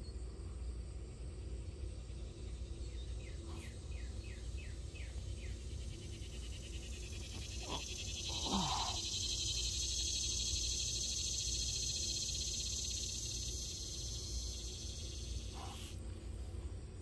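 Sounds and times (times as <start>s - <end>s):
insects pulsing chorus: 0.4s - 17.0s.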